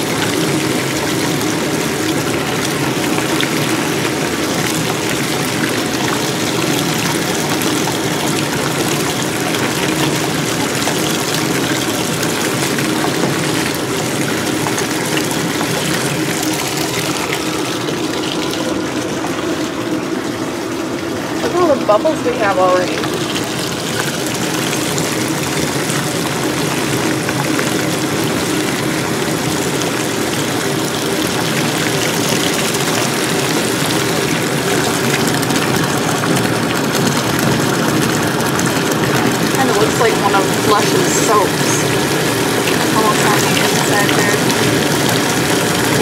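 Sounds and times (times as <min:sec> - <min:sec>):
faucet running into a tub: 0:00.0 - 0:46.0.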